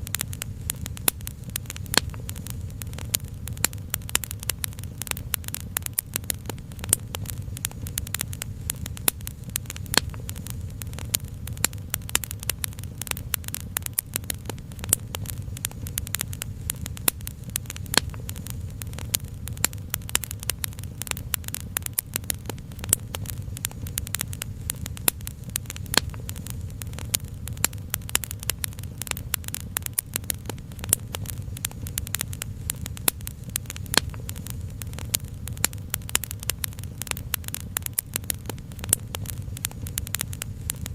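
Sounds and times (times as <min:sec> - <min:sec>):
low steady rumble: 0:00.0 - 0:40.9
sharp pops: 0:00.0 - 0:40.9
wood fire crackling: 0:00.0 - 0:40.9.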